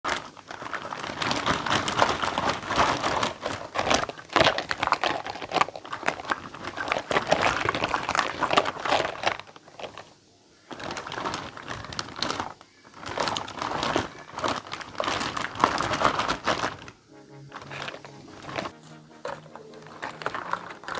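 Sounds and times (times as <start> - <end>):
packaging crinkling and rustling: 0.0 - 20.9.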